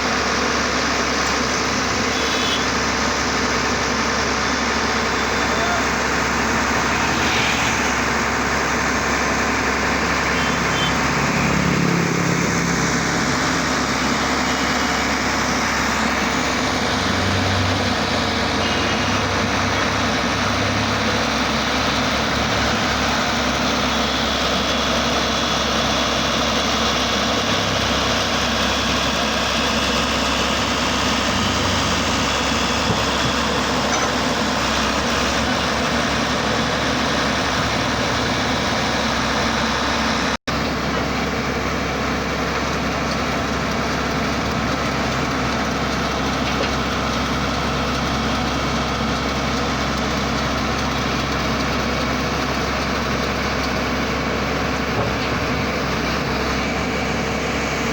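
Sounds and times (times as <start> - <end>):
drilling machine engine running: 0.0 - 57.9.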